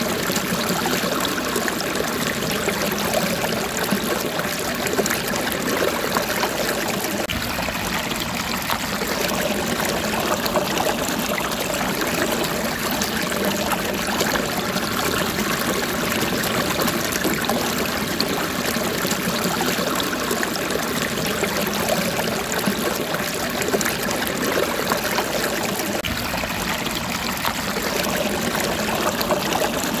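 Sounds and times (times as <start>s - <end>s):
running water: 0.0s - 30.0s.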